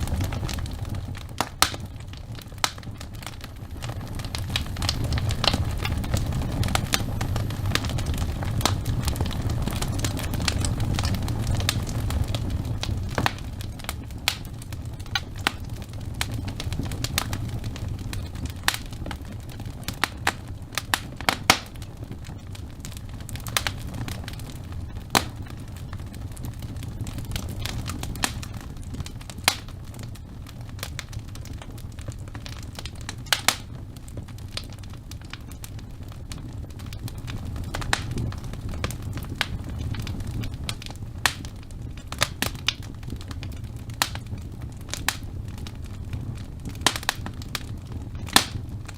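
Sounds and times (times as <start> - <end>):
fire crackles and pops: 0.0 - 48.9
fire rumbling in fireplace: 0.0 - 48.9.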